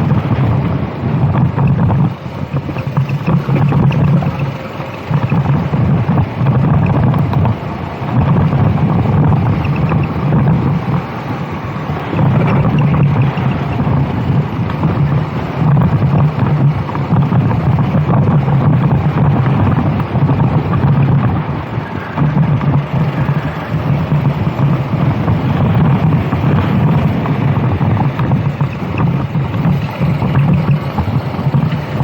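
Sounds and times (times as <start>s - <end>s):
kart engine running hard: 0.0s - 32.0s
wind noise on microphone: 0.0s - 32.0s.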